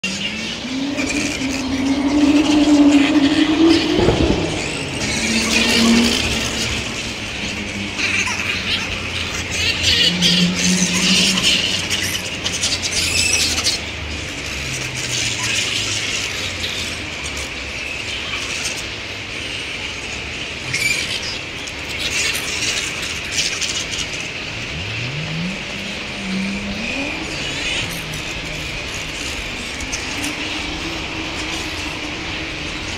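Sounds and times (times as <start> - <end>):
bats squealing and screeching: 0.0 - 32.9
low engine drone: 0.0 - 32.9.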